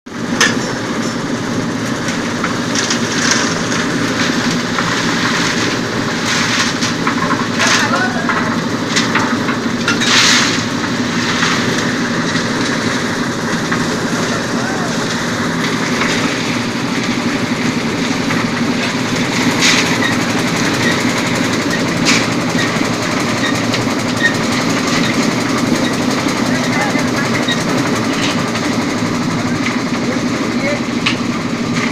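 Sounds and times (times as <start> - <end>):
concrete mixer clattering: 0.1 - 31.9
engine humming: 0.1 - 31.9.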